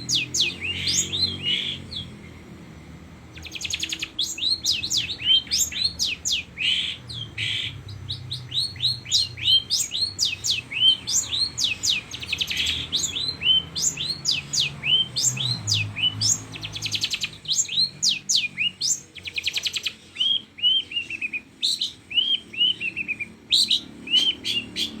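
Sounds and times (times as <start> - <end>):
bird whistling song: 0.0 - 2.2, 3.3 - 25.0
mimicked bird calls: 0.0 - 2.2, 3.4 - 25.0
harsh bird rasps: 0.0 - 2.4, 3.3 - 25.0.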